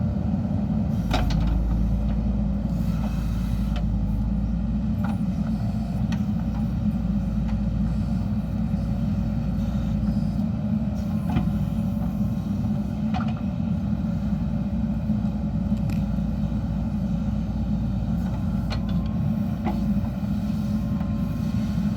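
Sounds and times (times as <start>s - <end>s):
diesel engine running under load: 0.0s - 21.9s.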